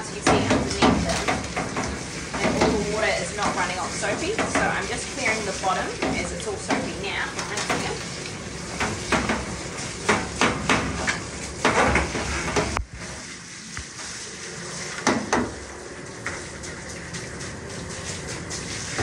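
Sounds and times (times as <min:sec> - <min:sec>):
shower sprayer water spraying: 0:00.0 - 0:19.0
water splashing into metal tub: 0:00.0 - 0:19.0.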